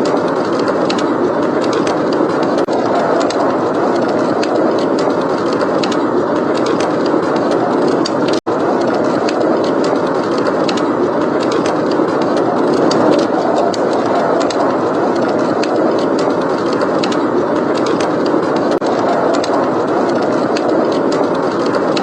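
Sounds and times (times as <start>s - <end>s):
blizzard wind: 0.0s - 22.0s
wood fire crackling: 0.0s - 22.0s.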